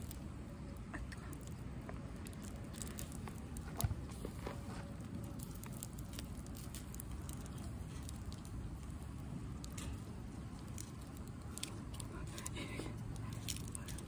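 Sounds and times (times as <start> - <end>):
low steady rumble: 0.0 - 14.0
shrimp shells crackling: 0.0 - 14.0.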